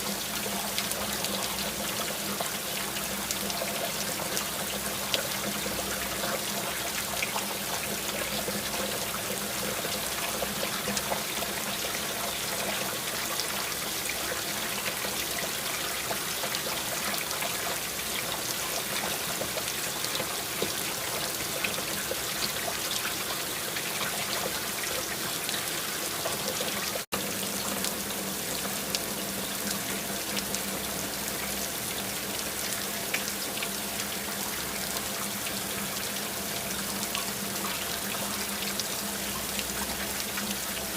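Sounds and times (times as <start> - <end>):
rain pattering: 0.0 - 40.9
trickling water: 0.0 - 40.9.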